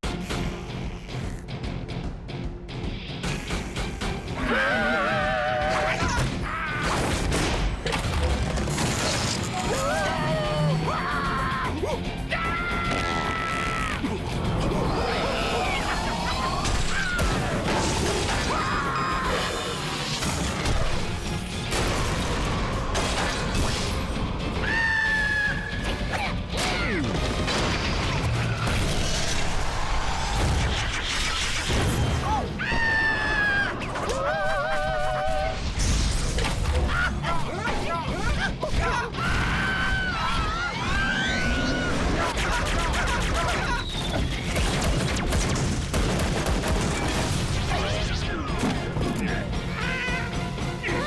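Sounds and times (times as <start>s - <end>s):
cartoon background music: 3.1s - 29.4s, 30.4s - 51.0s.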